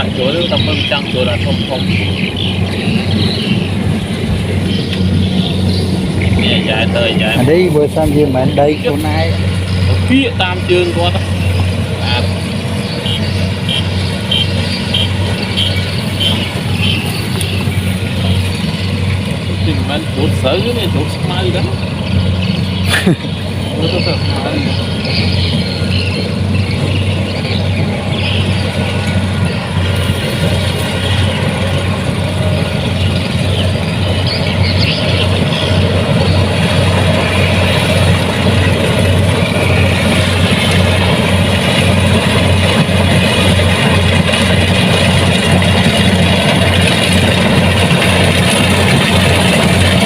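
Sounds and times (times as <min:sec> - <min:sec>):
diesel engine droning: 0:00.0 - 0:50.0
machinery rattling: 0:00.0 - 0:50.0.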